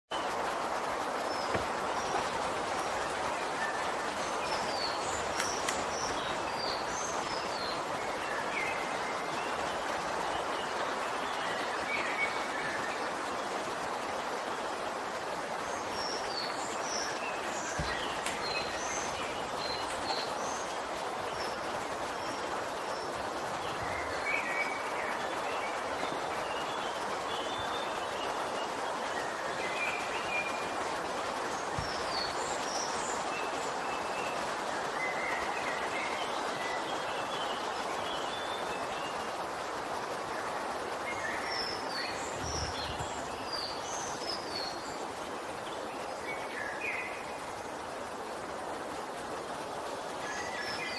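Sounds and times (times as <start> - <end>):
steady background hiss: 0.1 - 50.9.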